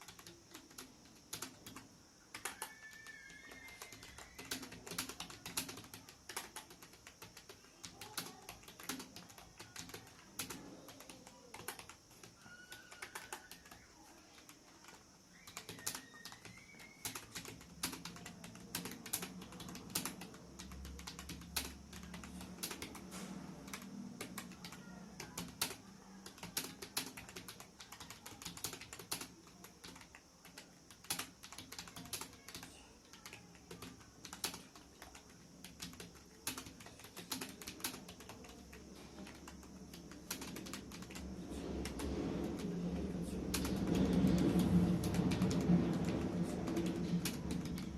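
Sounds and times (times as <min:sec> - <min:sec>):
fast typing on keyboard: 0:00.0 - 0:47.9.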